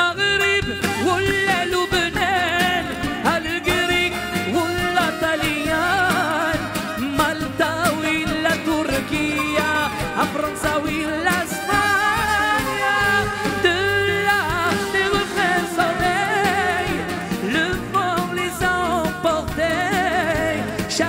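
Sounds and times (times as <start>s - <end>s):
live band with oud and violins: 0.0s - 21.0s
man singing ornamented lines: 0.0s - 21.0s.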